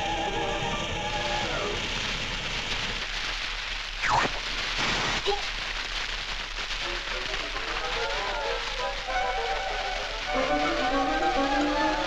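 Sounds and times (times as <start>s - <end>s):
hissing spray of water and steam: 0.0s - 12.0s.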